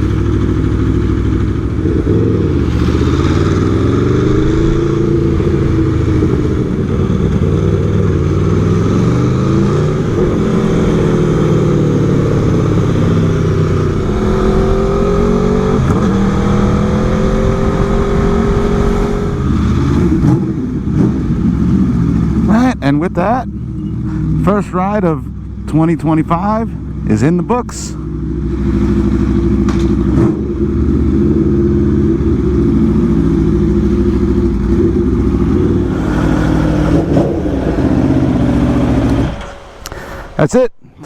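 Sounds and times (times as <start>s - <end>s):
motorcycle engine revving: 0.0s - 27.4s, 28.0s - 40.4s.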